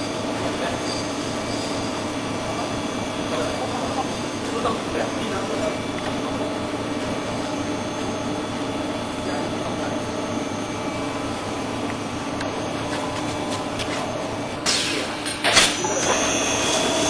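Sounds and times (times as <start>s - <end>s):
grinding machine motor hum: 0.0s - 17.0s.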